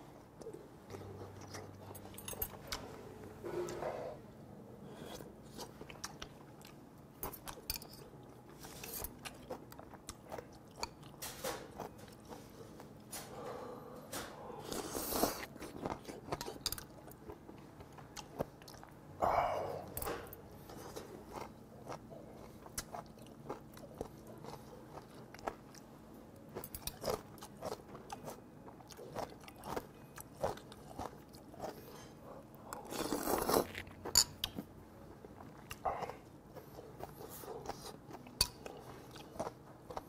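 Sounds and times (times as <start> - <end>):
chewing and smacking: 0.3 - 3.0, 5.5 - 13.1, 14.7 - 19.0, 20.6 - 40.0.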